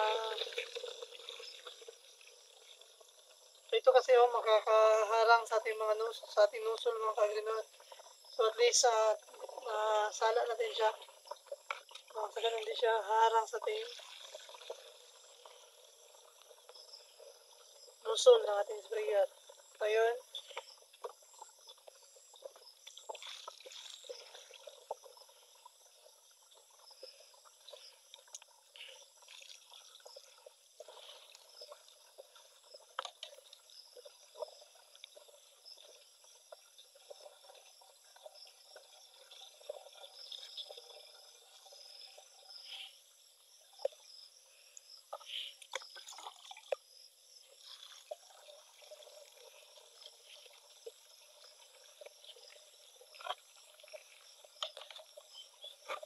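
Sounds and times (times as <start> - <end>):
liquid trickling and splashing: 0.0 - 56.0.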